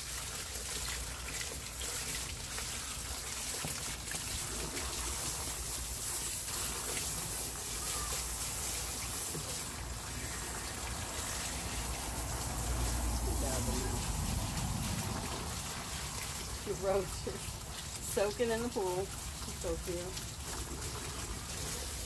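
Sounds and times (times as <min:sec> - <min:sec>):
hose spray on wet dog: 0:00.0 - 0:22.0
water splashing into plastic tub: 0:00.0 - 0:22.0.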